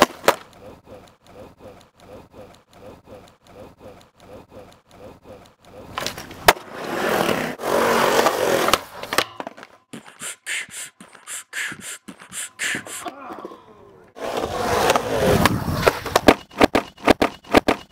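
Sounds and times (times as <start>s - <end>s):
skateboard clack: 0.0s - 17.9s
skateboard wheels rolling on concrete: 0.0s - 17.9s.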